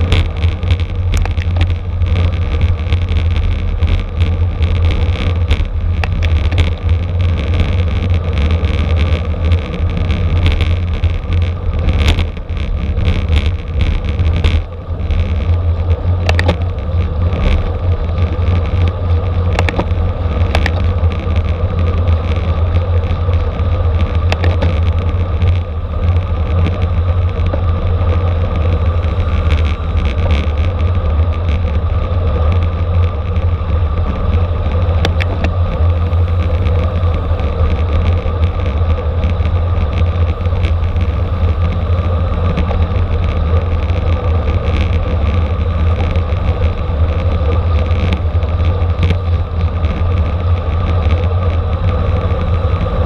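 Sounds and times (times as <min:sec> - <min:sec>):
hum from bicycle tyres: 0:00.0 - 0:53.0
road rumble: 0:00.0 - 0:53.0
wind rush: 0:00.0 - 0:53.0.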